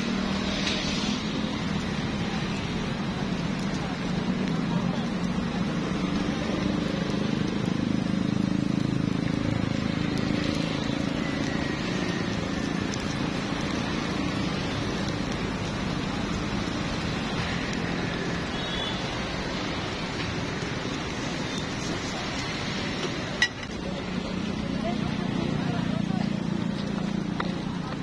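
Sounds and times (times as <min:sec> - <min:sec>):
batter sizzling in hot oil: 0:00.0 - 0:28.0.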